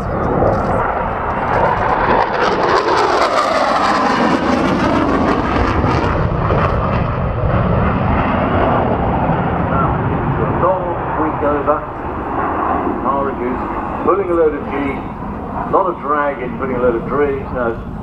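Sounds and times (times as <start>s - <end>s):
jet engines roaring past: 0.0s - 18.0s.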